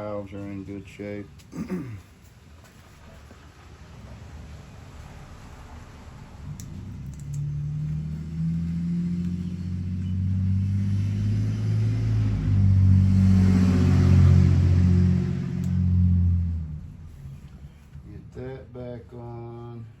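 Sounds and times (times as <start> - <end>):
engine droning: 3.0 - 20.0.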